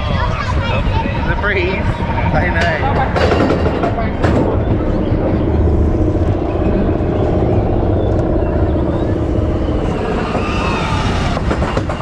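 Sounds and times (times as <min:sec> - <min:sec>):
roller coaster rumbling on track: 0:00.0 - 0:12.0
wind buffeting the microphone: 0:00.0 - 0:12.0.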